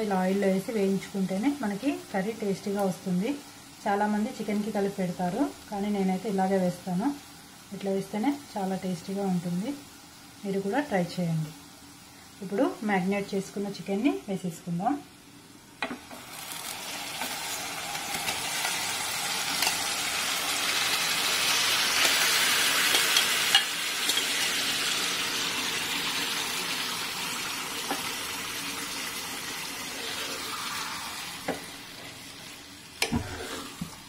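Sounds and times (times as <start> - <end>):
chicken sizzling in hot oil: 0.0 - 14.2, 15.3 - 34.0.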